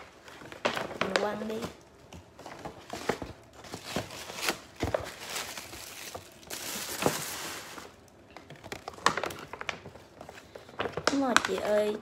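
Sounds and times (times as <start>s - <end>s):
paper bag rustling and crinkling: 0.0s - 12.0s.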